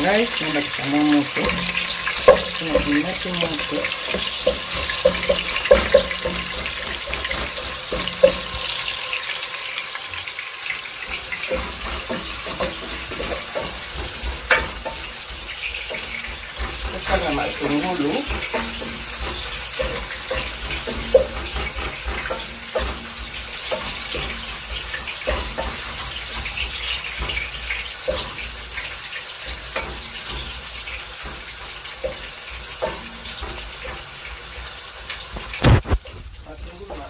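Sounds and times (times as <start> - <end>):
wooden spoon knocking on pot: 0.0 - 9.0, 11.0 - 36.0
onions sizzling in oil: 0.0 - 37.0.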